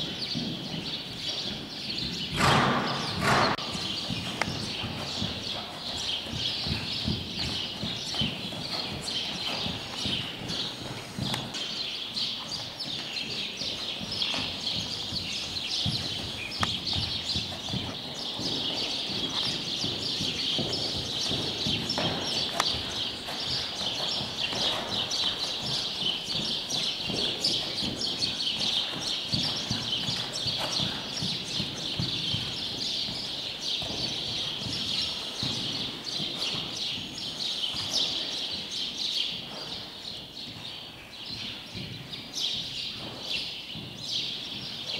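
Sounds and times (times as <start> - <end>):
horse hooves trotting on sand: 0.0 - 44.9.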